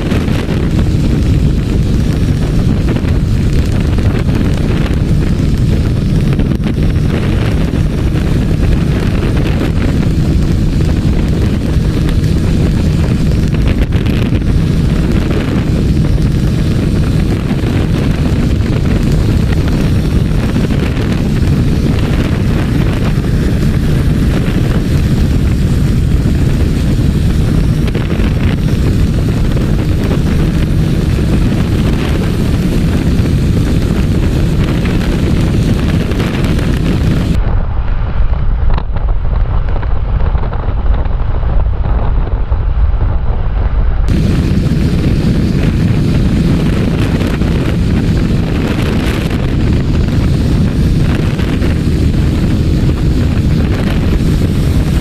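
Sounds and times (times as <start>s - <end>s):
motorbike engine droning: 0.0s - 55.0s
wind rushing over microphone: 0.0s - 55.0s.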